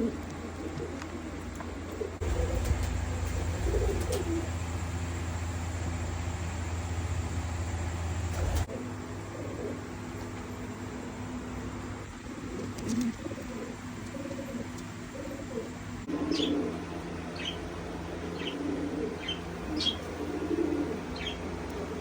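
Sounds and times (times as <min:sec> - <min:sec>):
pigeons cooing: 0:00.0 - 0:05.4, 0:08.3 - 0:22.0.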